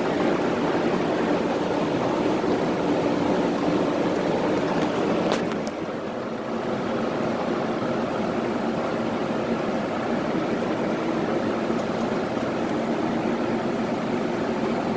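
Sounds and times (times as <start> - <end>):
air conditioner fan whoosh: 0.0 - 14.9.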